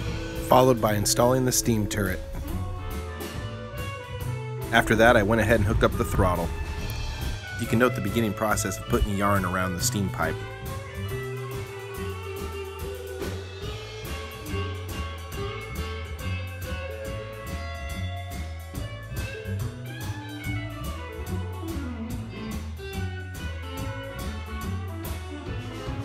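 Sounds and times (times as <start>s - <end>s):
drum beat and bass: 0.0s - 26.0s
instrumental guitar music: 0.0s - 26.0s.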